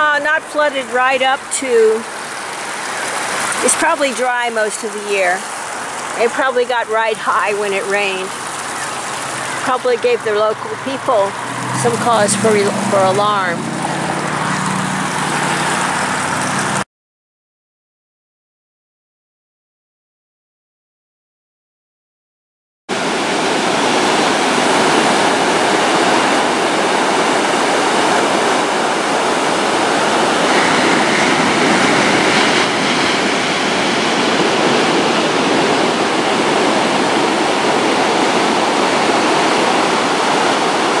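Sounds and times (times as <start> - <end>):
ocean surf on beach: 0.0 - 16.8, 22.9 - 41.0.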